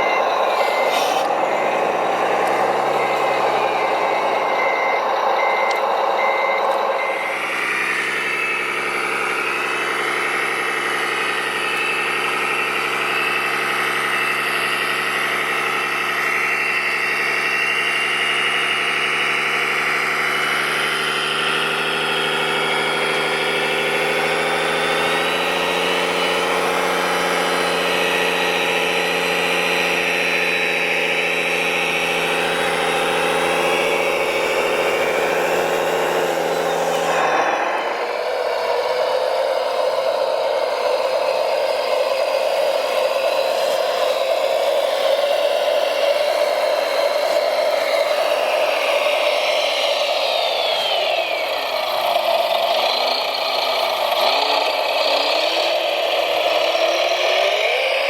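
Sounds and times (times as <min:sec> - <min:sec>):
diesel engine idling sound effect: 0:00.0 - 0:58.0.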